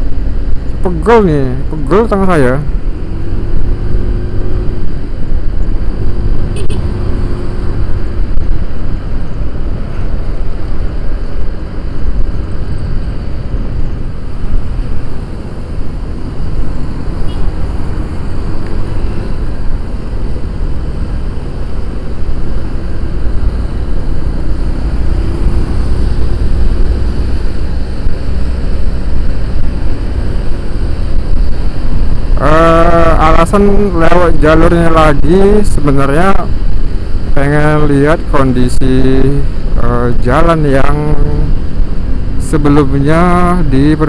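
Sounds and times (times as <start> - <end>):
road noise rumble: 0.0 - 44.0
wind buffeting microphone: 2.7 - 42.5.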